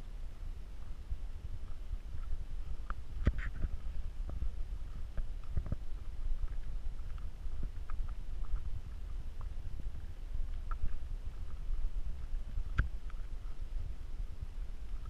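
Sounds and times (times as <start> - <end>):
wind buffeting microphone: 0.0 - 15.0
faint ticks: 0.3 - 15.0.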